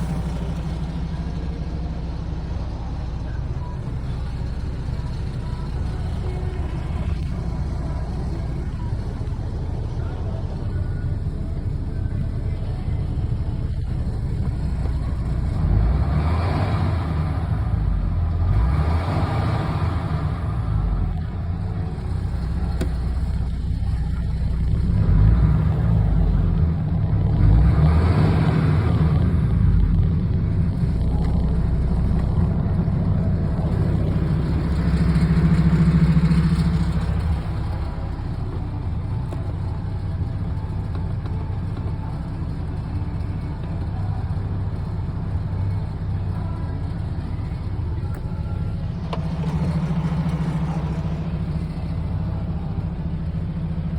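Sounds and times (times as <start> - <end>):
truck diesel engine revving: 0.0 - 53.9.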